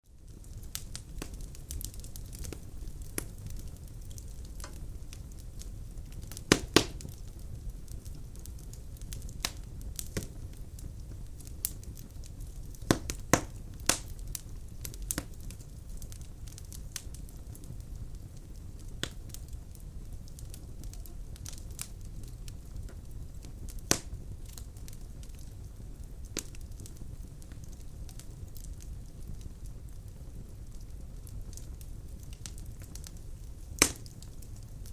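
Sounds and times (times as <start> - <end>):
fire crackling: 0.0 - 34.9
low rumble of fire: 0.0 - 34.9
loud fire pops: 0.2 - 34.9.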